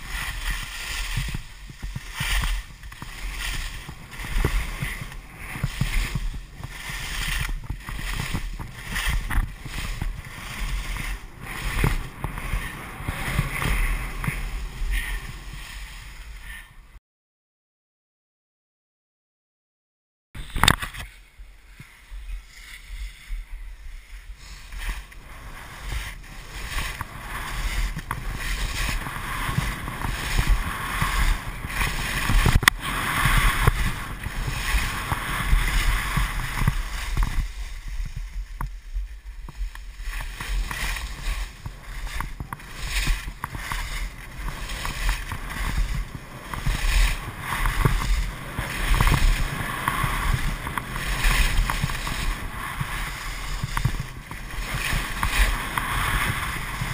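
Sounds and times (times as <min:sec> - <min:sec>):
wind buffeting microphone: 0:00.0 - 0:16.9, 0:20.4 - 0:56.9
skis scraping over snow: 0:00.0 - 0:17.0, 0:20.4 - 0:56.9.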